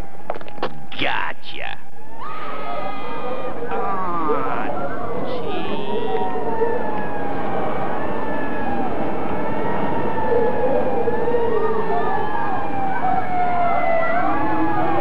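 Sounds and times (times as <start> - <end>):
steady background din: 0.0 - 13.6
siren wailing: 1.9 - 15.0.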